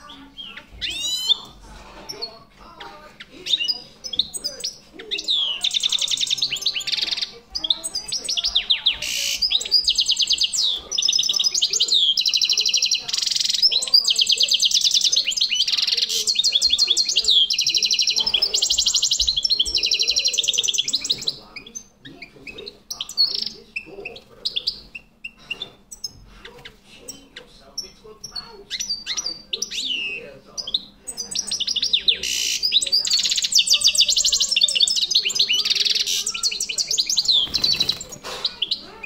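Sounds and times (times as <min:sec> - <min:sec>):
goldfinch twittering song: 0:00.0 - 0:26.2, 0:27.1 - 0:38.9
bird chirps: 0:00.0 - 0:39.0.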